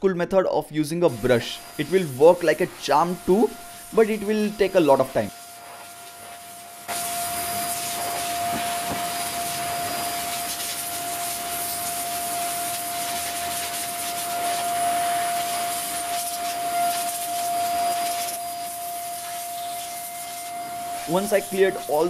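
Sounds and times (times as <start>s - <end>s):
vacuum cleaner blowing air: 1.0s - 22.0s.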